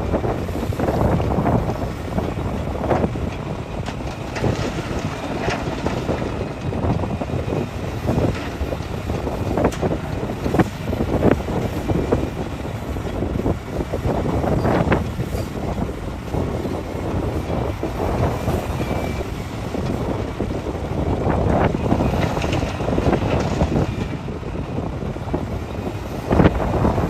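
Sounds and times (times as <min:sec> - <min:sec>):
excavator diesel engine: 0:00.0 - 0:27.0
wind buffeting microphone: 0:00.0 - 0:27.0.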